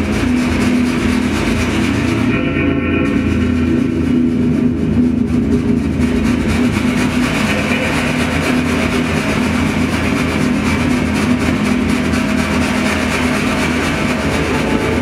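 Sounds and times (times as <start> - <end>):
dense droning noise: 0.0 - 15.0.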